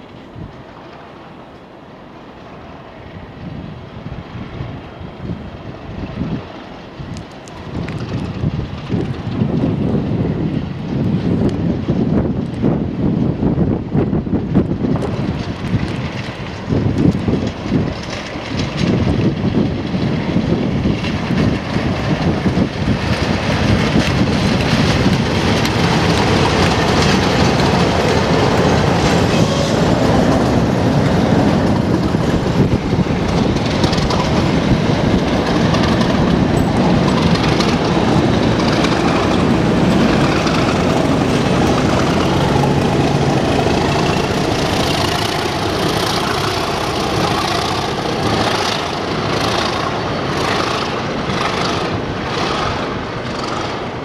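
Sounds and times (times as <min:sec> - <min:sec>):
diesel locomotive engine: 0:00.0 - 0:54.0
wheels clattering on rails: 0:05.6 - 0:54.0.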